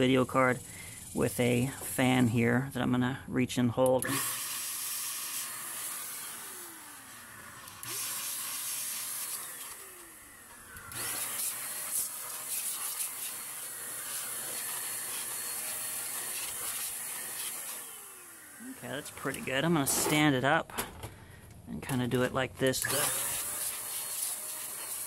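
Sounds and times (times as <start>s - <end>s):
electric duster blowing air: 0.0s - 2.5s, 4.0s - 21.2s, 22.8s - 25.0s.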